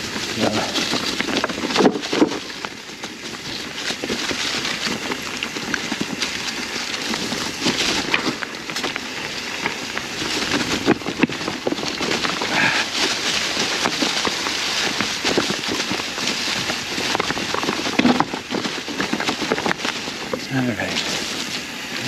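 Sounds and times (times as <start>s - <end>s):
bike clicks and knocks: 0.0s - 21.8s
bike tyres rustling over leaves: 0.0s - 22.0s.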